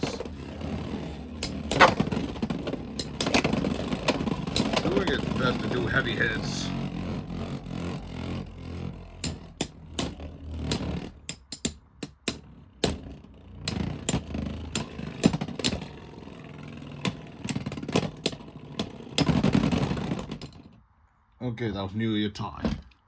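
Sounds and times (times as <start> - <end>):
spinning tops whirring: 0.0 - 20.6
rattling: 0.0 - 20.8.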